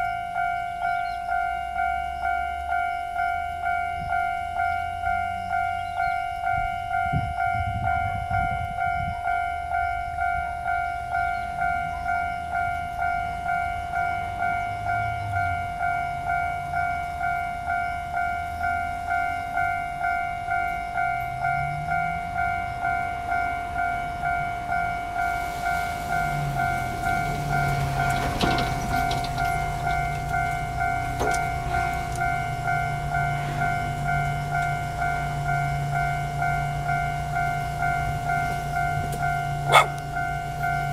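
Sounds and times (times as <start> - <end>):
level-crossing bell dinging: 0.0 - 40.9.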